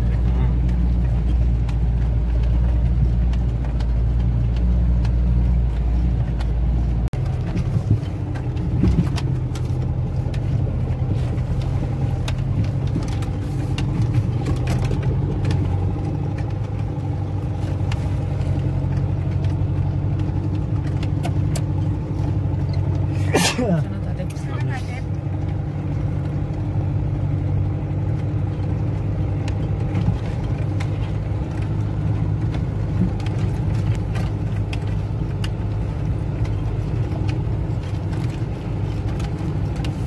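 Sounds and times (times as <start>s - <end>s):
engine running under load: 0.0s - 40.0s.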